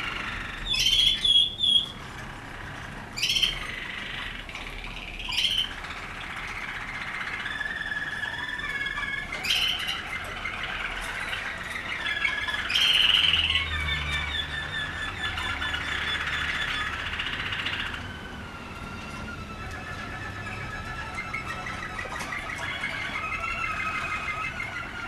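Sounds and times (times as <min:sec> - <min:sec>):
canaries singing trills: 0:00.0 - 0:25.0.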